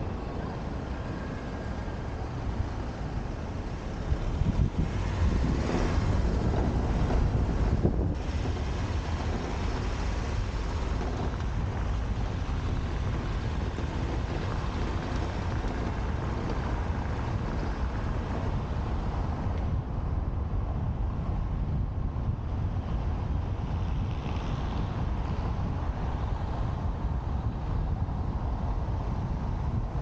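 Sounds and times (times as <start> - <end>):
road and tyre rumble: 0.0 - 30.0
wind rushing over microphone: 0.0 - 30.0.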